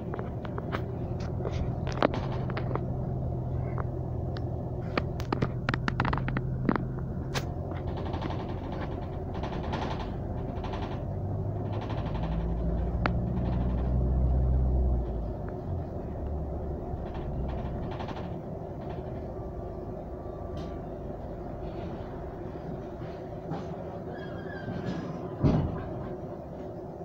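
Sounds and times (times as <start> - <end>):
bus body rattling: 0.0 - 27.0
bus engine drone: 0.0 - 27.0.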